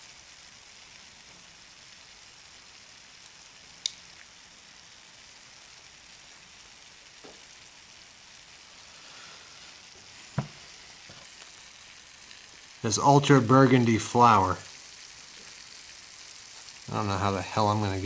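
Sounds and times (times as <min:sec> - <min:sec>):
cooling bath fizzing and bubbling: 0:00.0 - 0:18.0.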